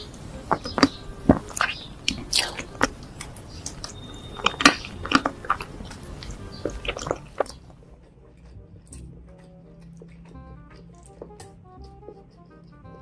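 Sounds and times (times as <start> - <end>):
sticky lip smacks: 0.0 - 13.0
wet chewing: 0.0 - 13.0.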